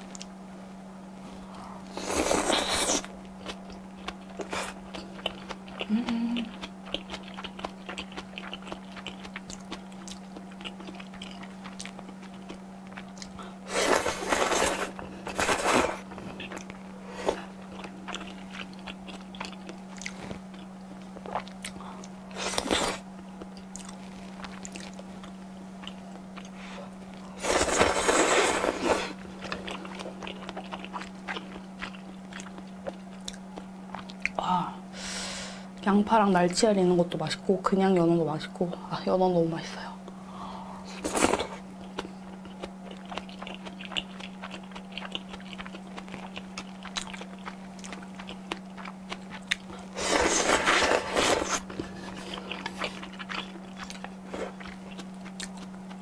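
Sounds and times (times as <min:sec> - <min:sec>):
steady low hum: 0:00.0 - 0:56.0
wet chewing with mouth clicks: 0:01.9 - 0:34.4, 0:41.0 - 0:56.0.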